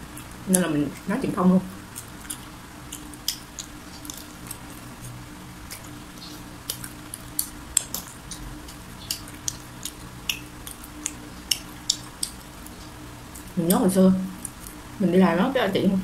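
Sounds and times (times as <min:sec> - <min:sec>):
chewing fried chicken: 0:00.0 - 0:15.0.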